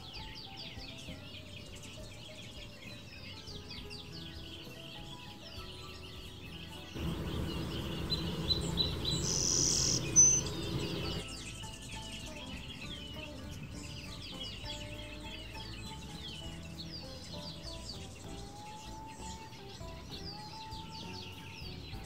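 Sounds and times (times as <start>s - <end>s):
soft music: 0.0s - 22.0s
songbirds chirping: 0.0s - 22.0s.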